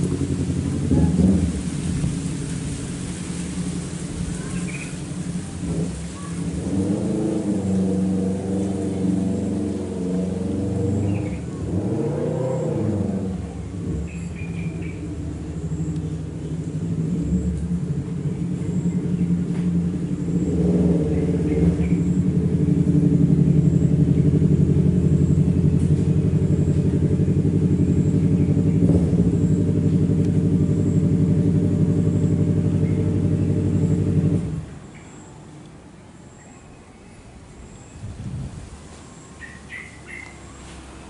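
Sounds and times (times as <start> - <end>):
engine-like hum: 0.0 - 41.0.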